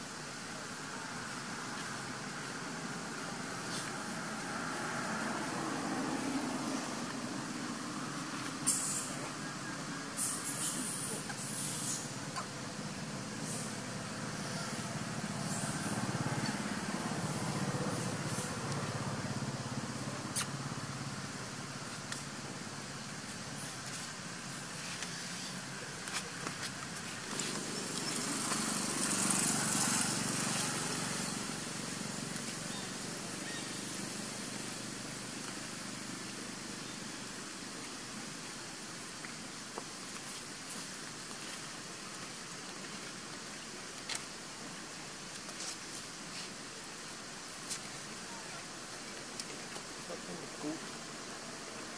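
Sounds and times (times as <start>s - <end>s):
vehicle engine humming: 0.0s - 43.9s
outdoor background hiss: 0.0s - 51.9s.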